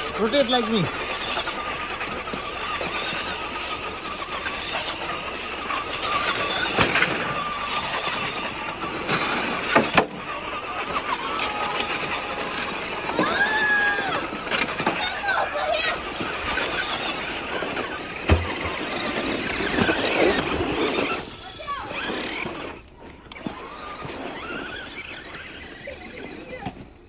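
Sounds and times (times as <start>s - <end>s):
toy car motors whining: 0.0s - 27.0s.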